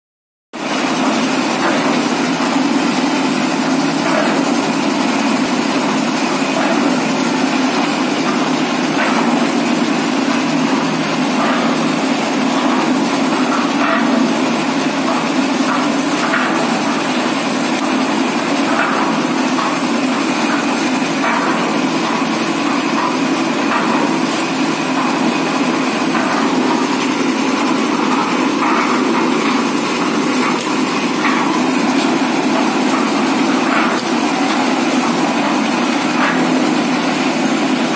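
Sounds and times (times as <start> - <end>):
concrete mixer engine running: 0.5 - 37.9.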